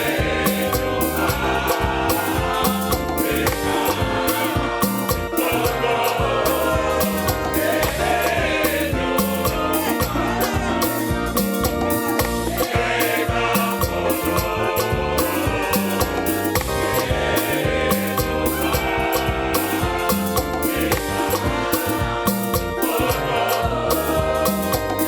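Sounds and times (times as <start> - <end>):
driving percussion beat: 0.0 - 25.0
gospel choir singing with band: 0.0 - 25.0.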